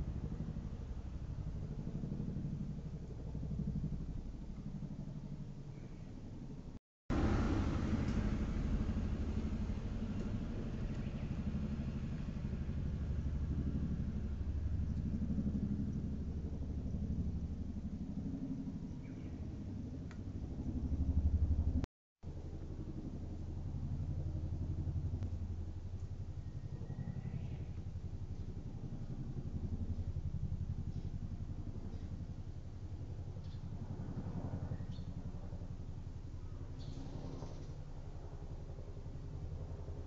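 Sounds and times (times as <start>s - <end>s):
helicopter rotor rumble: 0.0s - 40.0s.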